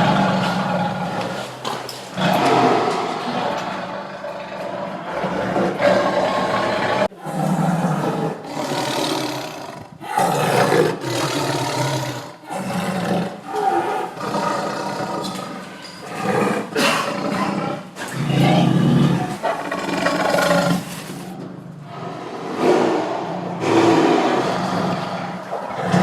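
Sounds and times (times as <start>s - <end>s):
tiger roaring: 0.0s - 26.0s.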